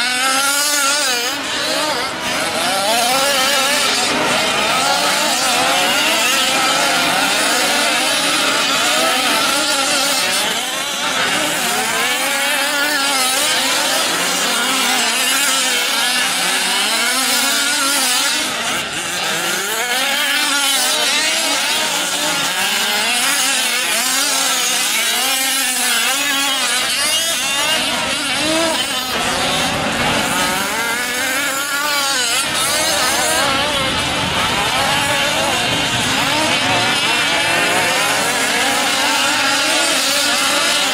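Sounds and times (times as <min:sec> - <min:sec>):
small two-stroke engines revving: 0:00.0 - 0:40.9.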